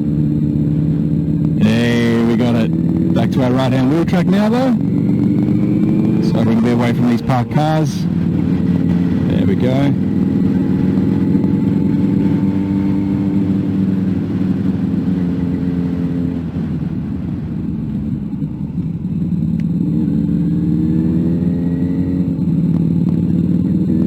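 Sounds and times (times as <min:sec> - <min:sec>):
car engine: 0:00.0 - 0:24.0
road noise inside car: 0:00.0 - 0:24.0.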